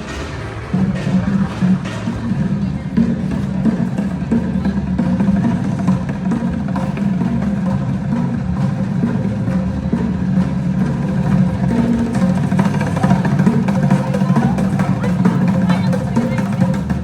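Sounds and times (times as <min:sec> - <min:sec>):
drums and percussion music: 0:00.0 - 0:17.0.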